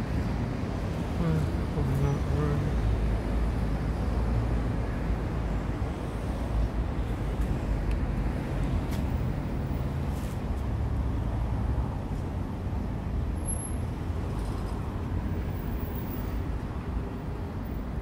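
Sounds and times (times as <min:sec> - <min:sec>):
motor vehicle rumbling: 0:00.0 - 0:18.0.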